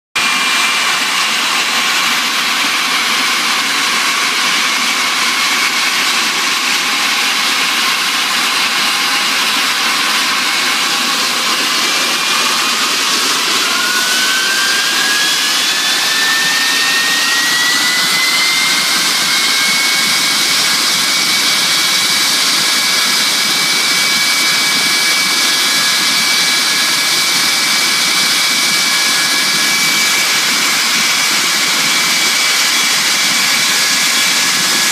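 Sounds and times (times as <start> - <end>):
engine whine rising in pitch: 0.2 - 34.9
jet engines starting: 0.2 - 34.9.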